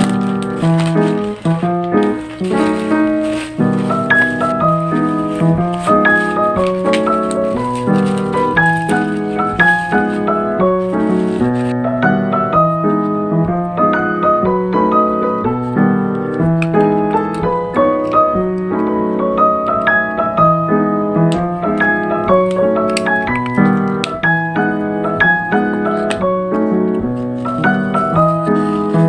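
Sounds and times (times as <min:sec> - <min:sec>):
solo piano music: 0:00.0 - 0:29.0.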